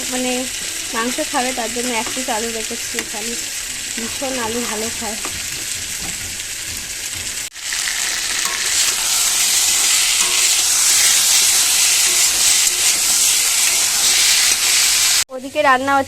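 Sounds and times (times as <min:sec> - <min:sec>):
chicken sizzling in a pan: 0:00.0 - 0:15.3.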